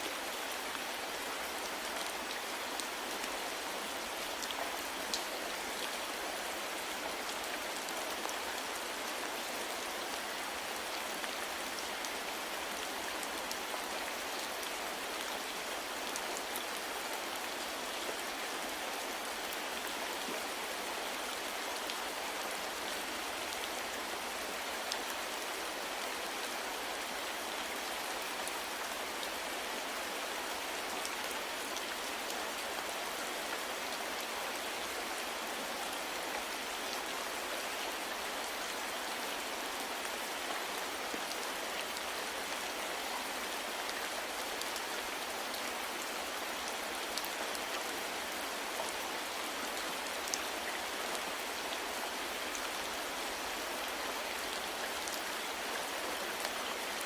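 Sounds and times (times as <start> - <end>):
rain pattering on a surface: 0.1 - 57.0.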